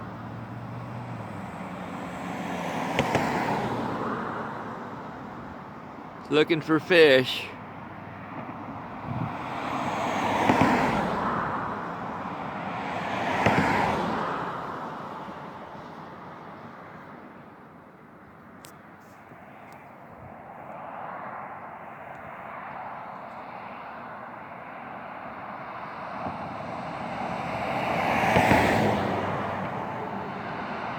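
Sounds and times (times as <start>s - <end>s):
vehicles passing: 0.0s - 17.5s, 18.5s - 30.9s
low hum of traffic: 0.0s - 30.9s.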